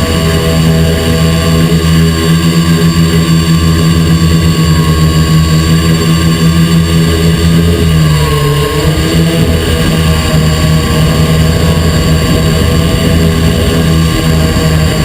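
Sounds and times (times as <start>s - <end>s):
quadcopter propellers humming: 0.0s - 15.0s.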